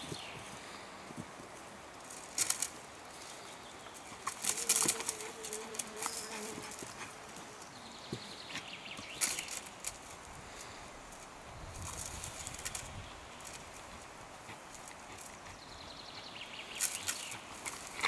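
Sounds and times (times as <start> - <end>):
grass rustling: 0.0 - 18.0.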